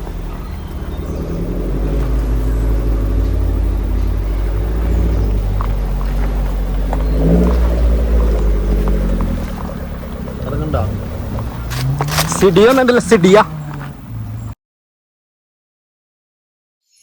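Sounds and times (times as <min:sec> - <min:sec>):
engine pulling under load: 0:00.0 - 0:14.6.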